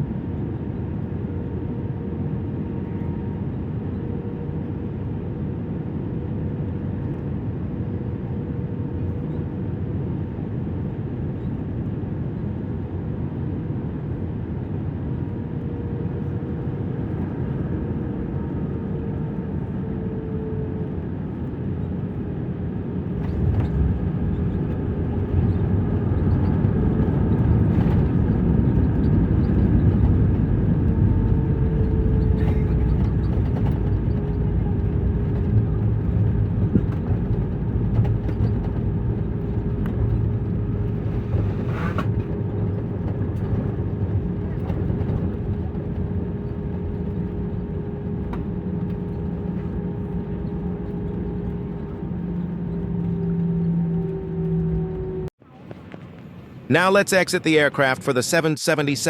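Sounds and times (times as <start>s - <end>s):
low engine rumble: 0.0s - 59.0s.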